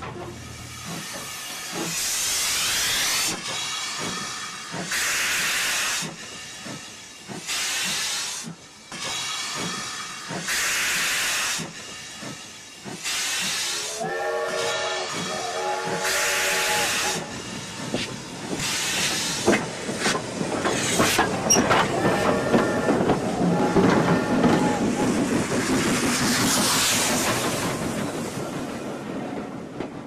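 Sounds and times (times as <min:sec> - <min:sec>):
hissing steam bursts: 0:00.6 - 0:28.4.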